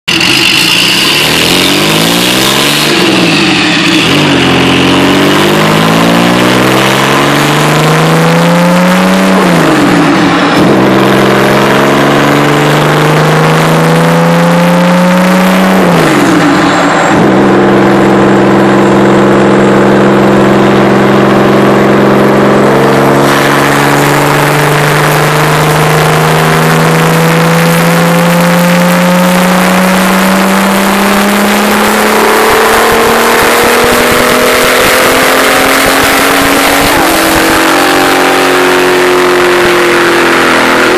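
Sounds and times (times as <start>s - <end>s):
engine revving under full load: 0.0s - 40.9s.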